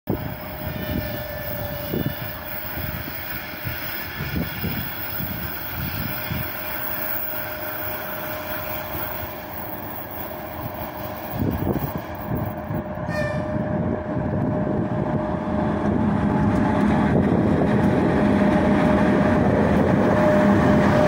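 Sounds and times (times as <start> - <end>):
wind buffeting microphone: 0.1 - 7.1, 10.6 - 21.0
electric locomotive drone: 0.1 - 21.0
locomotive whine: 0.1 - 21.0.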